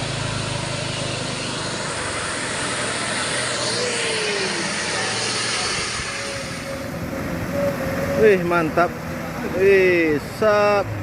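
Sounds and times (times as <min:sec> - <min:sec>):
heavy truck engine and road noise: 0:00.0 - 0:11.0.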